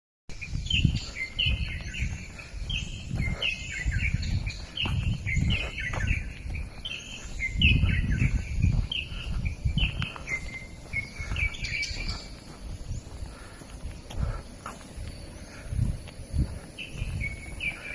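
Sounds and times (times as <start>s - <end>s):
songbirds chirping: 0.3s - 17.9s.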